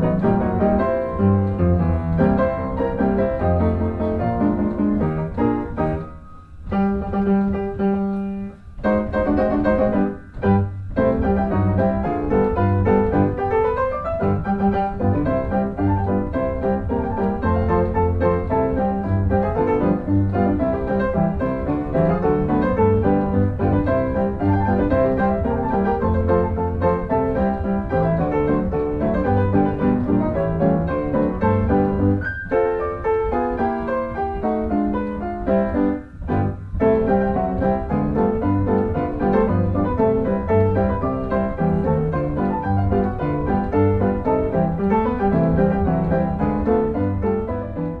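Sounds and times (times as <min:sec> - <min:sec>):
piano music: 0:00.0 - 0:48.0.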